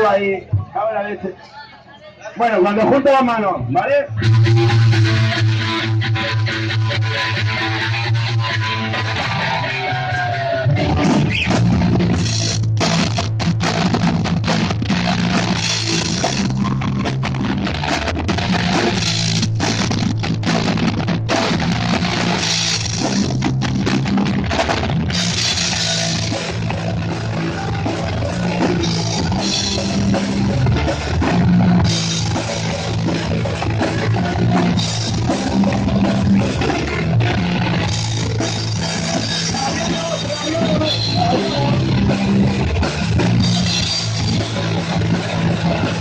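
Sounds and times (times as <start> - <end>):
punk band playing loud: 4.1 - 46.0.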